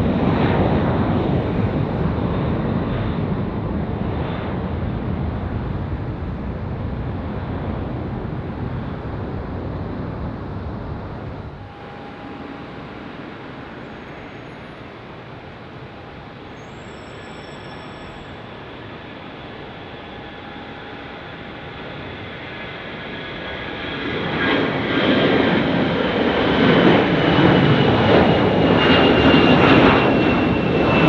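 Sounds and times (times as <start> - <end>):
jet airliner rumble: 0.0 - 31.0
jet engine whine: 0.0 - 31.0.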